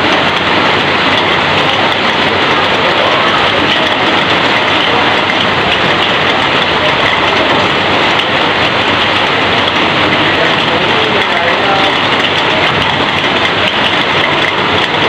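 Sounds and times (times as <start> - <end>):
heavy rain on corrugated roof: 0.0 - 15.0.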